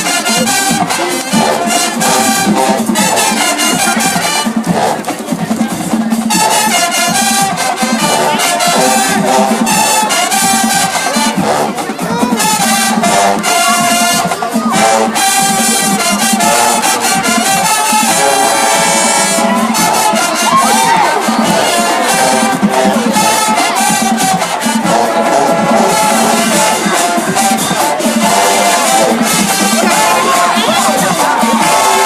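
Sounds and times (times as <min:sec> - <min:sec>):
brass section playing: 0:00.0 - 0:32.0
drum strokes: 0:00.0 - 0:32.0.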